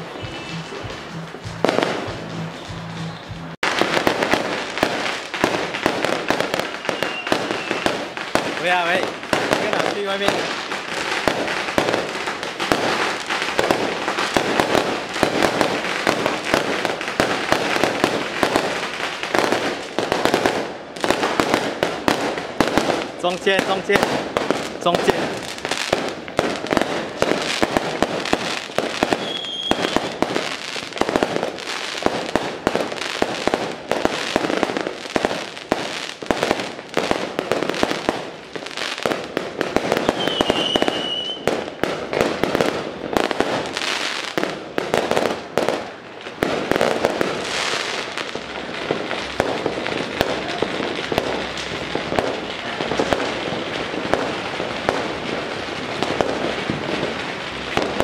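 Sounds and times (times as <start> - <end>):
firecrackers crackling: 0.0 - 58.0.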